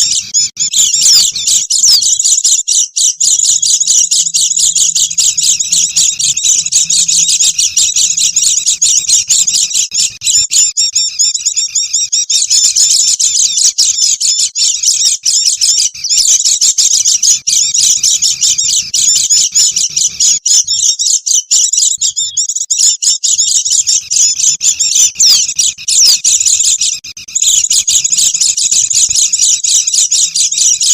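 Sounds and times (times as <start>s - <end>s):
flock of birds twittering: 0.0s - 30.9s.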